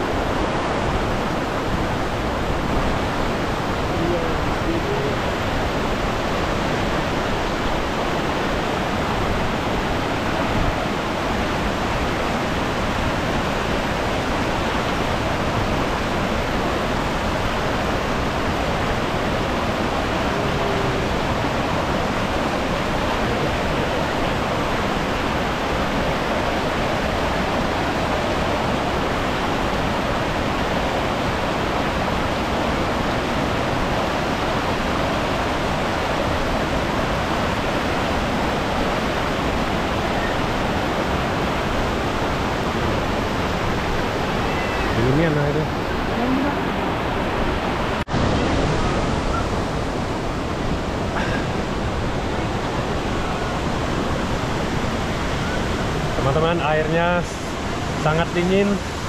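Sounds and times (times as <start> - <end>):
water rushing over boulders: 0.0 - 59.0
waterfall roar: 0.0 - 59.0.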